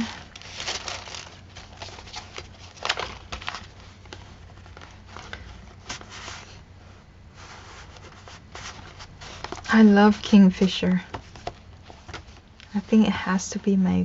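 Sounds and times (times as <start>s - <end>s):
paper rustling: 0.0s - 13.1s.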